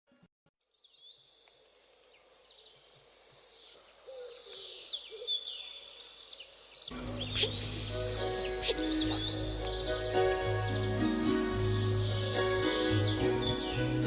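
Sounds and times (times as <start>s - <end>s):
small birds chirping: 0.7s - 14.0s.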